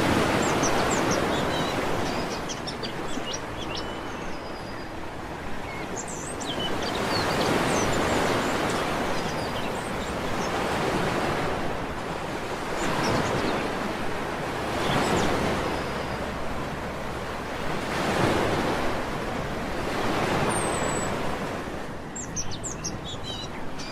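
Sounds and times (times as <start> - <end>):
sea waves washing onto beach: 0.0 - 23.2.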